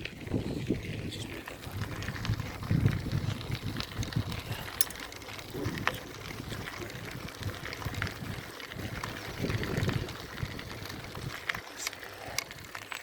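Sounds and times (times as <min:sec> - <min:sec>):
bicycle clicks and rattles: 0:00.0 - 0:13.0
wind and tyre rumble: 0:00.0 - 0:13.0.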